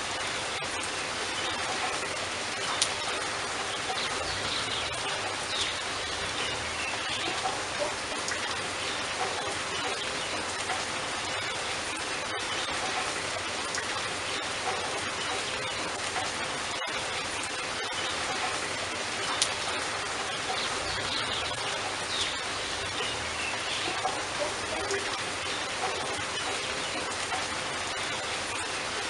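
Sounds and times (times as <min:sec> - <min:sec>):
steady rain patter: 0:00.0 - 0:29.0.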